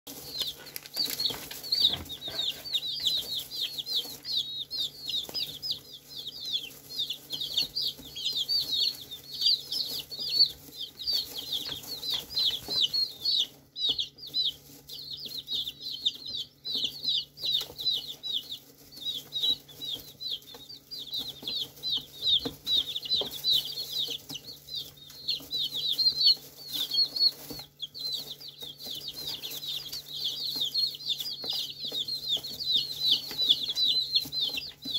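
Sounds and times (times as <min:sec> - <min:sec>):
chicks cheeping: 0:00.0 - 0:34.9.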